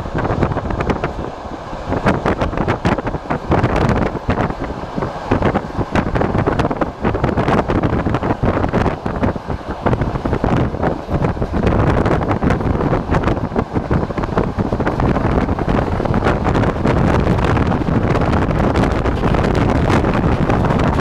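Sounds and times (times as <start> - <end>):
train wheels rumbling on rails: 0.0 - 21.0
wind buffeting microphone: 0.0 - 21.0.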